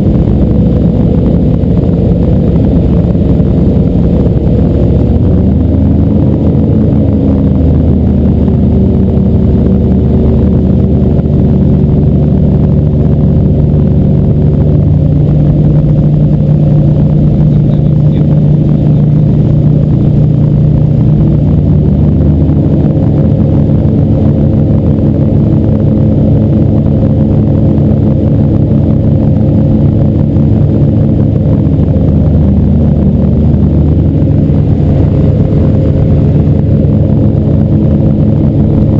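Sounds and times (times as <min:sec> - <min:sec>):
boat motor running: 0:00.0 - 0:38.9.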